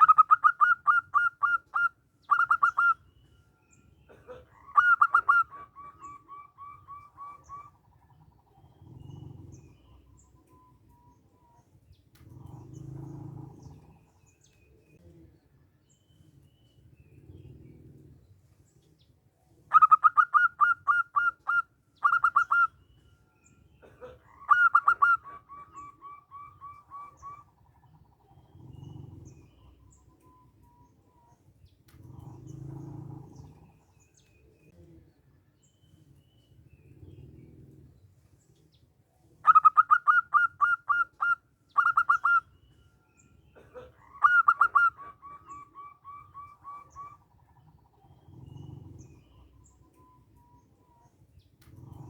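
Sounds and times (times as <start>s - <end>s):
dove cooing: 0.0s - 3.2s, 4.0s - 15.4s, 16.2s - 35.2s, 36.7s - 52.0s.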